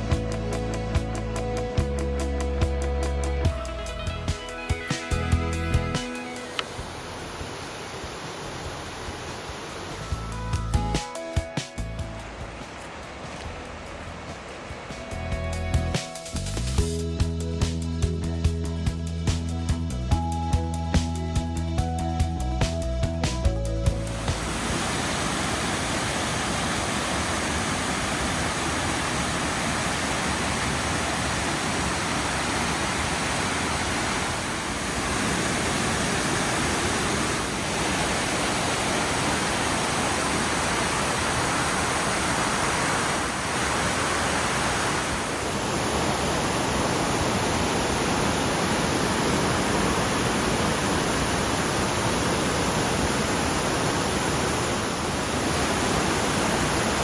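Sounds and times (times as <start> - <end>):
waterfall rushing: 2.6 - 15.4, 24.0 - 57.0.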